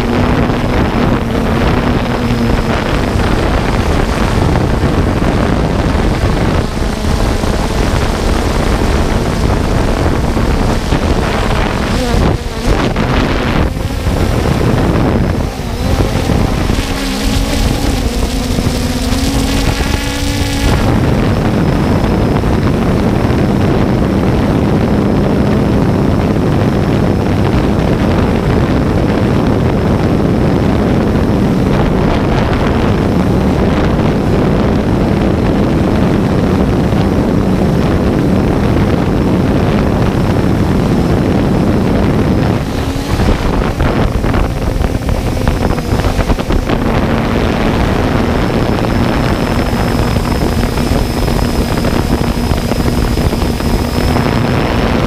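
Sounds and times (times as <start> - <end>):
drone rotors humming: 0.0 - 55.0
wind rush on microphone: 0.0 - 55.0.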